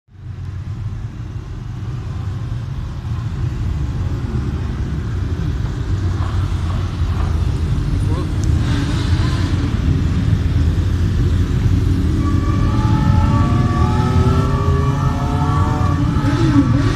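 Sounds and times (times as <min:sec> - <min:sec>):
motorcycle engines rumbling: 0:00.1 - 0:16.9.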